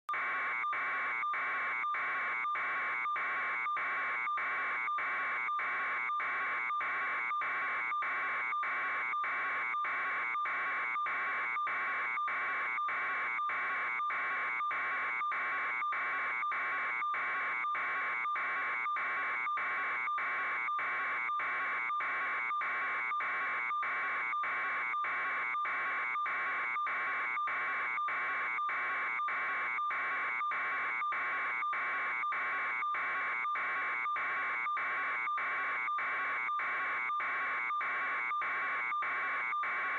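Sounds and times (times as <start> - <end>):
pulsing electronic alarm tone: 0.1 - 39.9.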